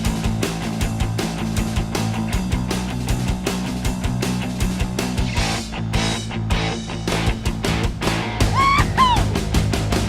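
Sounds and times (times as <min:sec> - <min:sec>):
bass line: 0:00.0 - 0:10.0
electric guitar: 0:00.0 - 0:10.0
steady drum beat: 0:00.0 - 0:10.0.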